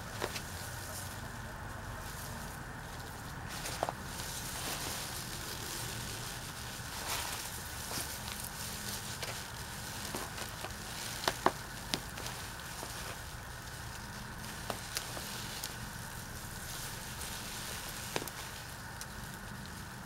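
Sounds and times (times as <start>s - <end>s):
leaves and stalks rustling: 0.0s - 20.0s.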